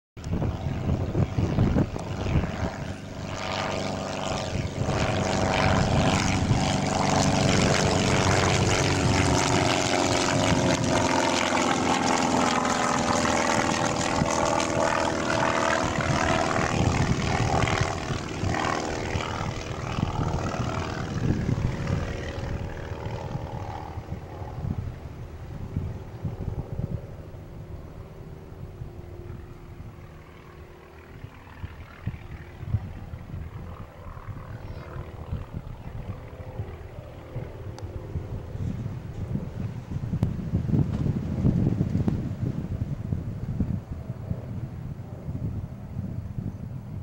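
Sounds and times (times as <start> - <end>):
propeller plane droning: 0.2 - 47.0.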